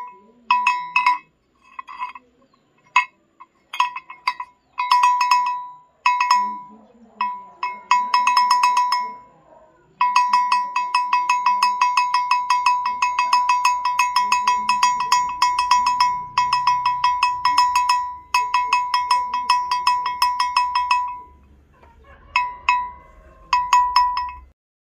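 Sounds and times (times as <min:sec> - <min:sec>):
metal bell clanking: 0:00.0 - 0:09.4, 0:10.0 - 0:24.6.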